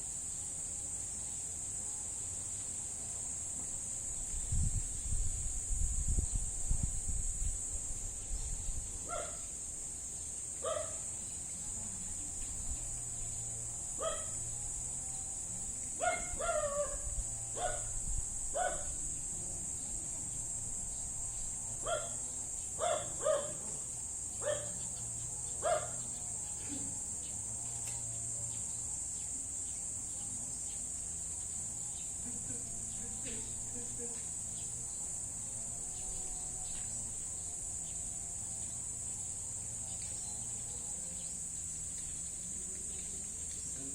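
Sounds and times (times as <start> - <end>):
crickets droning: 0.0 - 43.9.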